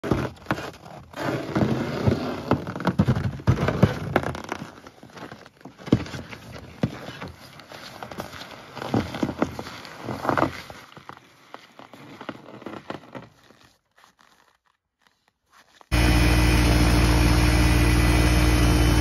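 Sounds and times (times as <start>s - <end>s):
footsteps crunching on snowy ice: 0.4s - 19.0s.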